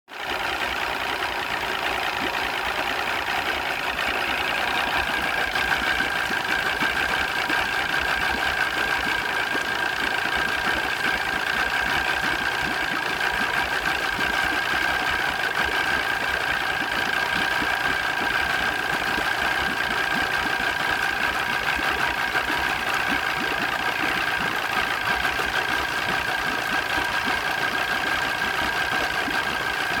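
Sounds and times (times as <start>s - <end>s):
outboard engine idling roughly: 0.1s - 30.0s.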